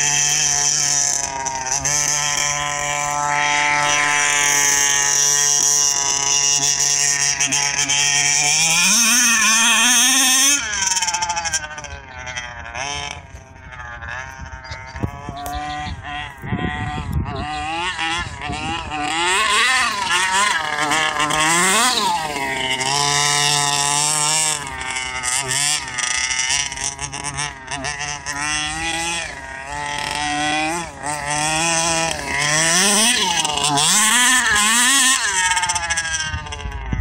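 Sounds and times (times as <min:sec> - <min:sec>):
toy car engine revving: 0:00.0 - 0:37.0.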